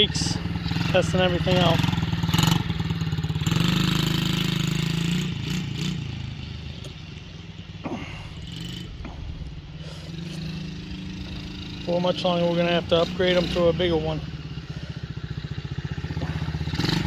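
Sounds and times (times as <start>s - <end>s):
dirt bike engine pulling away: 0.0s - 17.0s.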